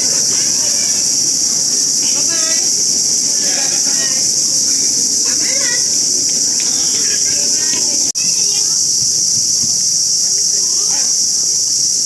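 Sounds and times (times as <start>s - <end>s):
faint voices: 0.0s - 12.0s
insect chorus buzzing: 0.0s - 12.0s.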